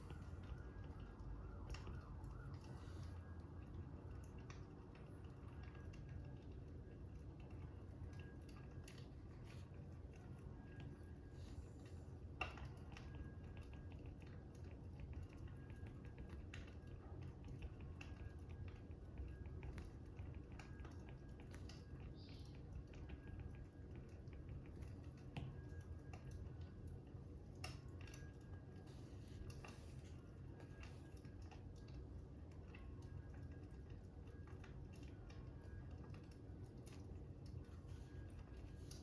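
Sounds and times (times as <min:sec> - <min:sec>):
fire crackling: 0:00.0 - 0:39.0.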